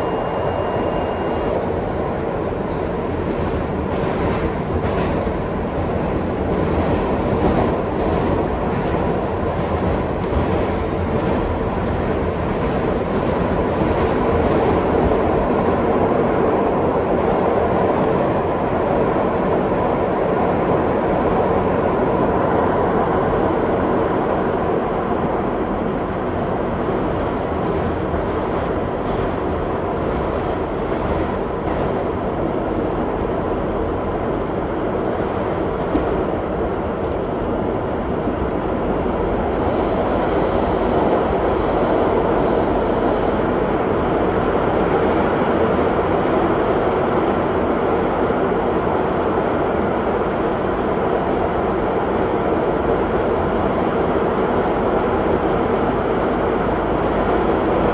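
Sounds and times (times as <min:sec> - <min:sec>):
subway wheels rumbling on rail: 0:00.0 - 0:57.9.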